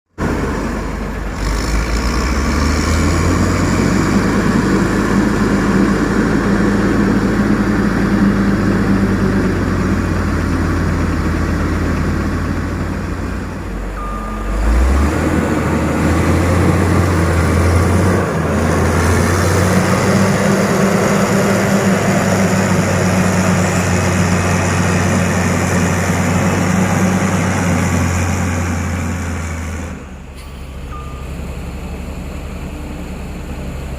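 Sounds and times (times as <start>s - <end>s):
heavy diesel machinery running: 0.1s - 33.9s.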